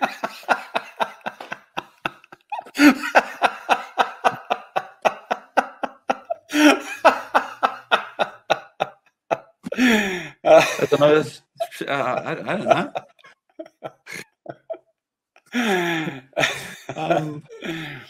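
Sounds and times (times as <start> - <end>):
men laughing: 0.0 - 14.8, 15.5 - 18.0.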